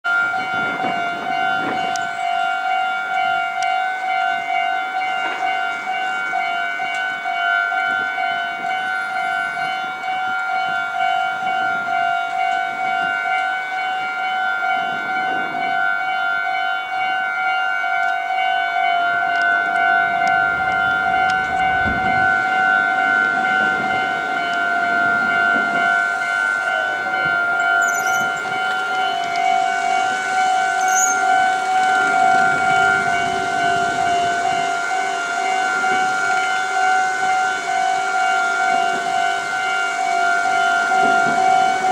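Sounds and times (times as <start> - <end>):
level crossing alarm dinging: 0.0 - 41.9.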